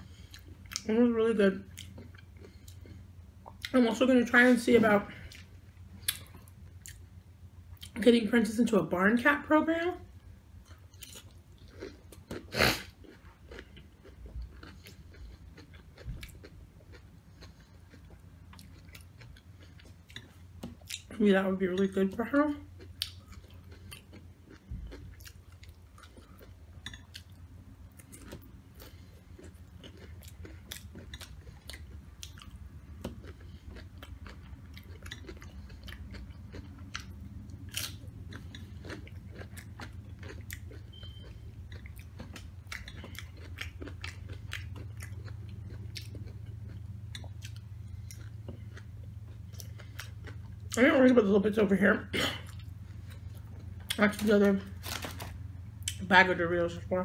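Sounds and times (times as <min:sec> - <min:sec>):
chewing and crunching chips: 0:00.0 - 0:56.9
steady low hum: 0:00.0 - 0:57.0.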